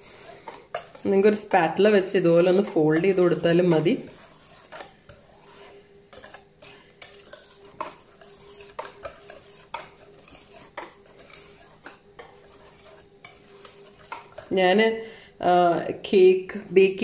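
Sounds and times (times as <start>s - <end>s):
utensil scraping metal bowl: 0.0s - 14.9s
faint steady hum: 0.0s - 17.0s.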